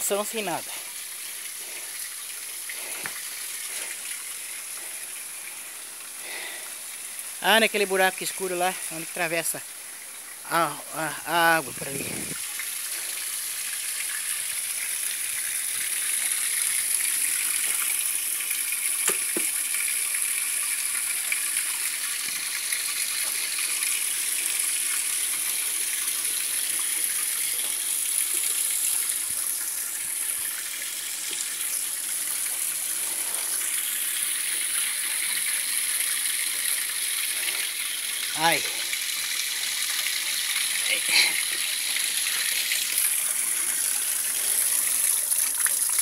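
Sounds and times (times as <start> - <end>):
spring water splashing over rocks: 0.0 - 46.0.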